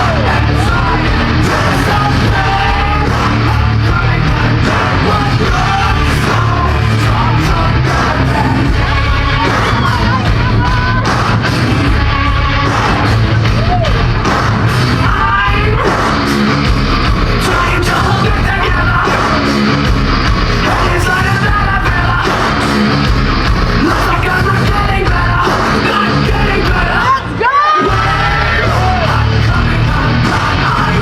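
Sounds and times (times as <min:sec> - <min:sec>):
heavy steady bass: 0:00.0 - 0:31.0
loud rock music: 0:00.0 - 0:31.0
yelled and sung vocals: 0:00.0 - 0:31.0.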